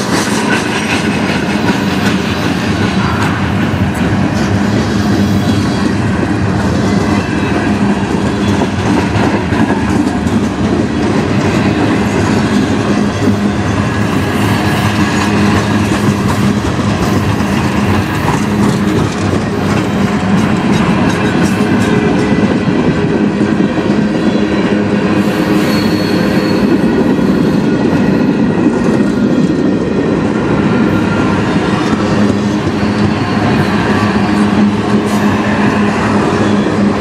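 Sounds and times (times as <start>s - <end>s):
train wheels rolling on rails: 0.0s - 37.0s.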